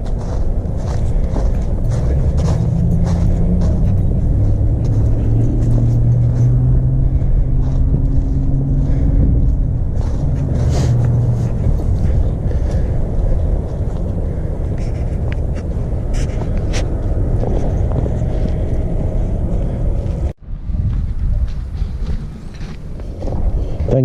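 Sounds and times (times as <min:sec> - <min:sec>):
vehicle engine idling: 0:00.0 - 0:20.4.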